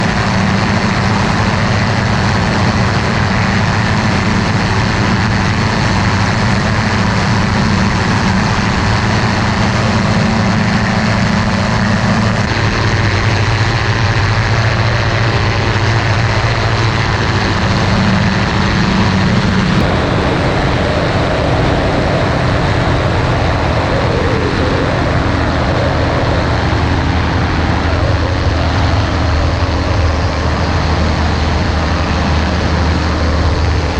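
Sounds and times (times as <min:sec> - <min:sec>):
aircraft engine and propeller: 0:00.0 - 0:33.9
broad rushing noise: 0:00.0 - 0:33.9.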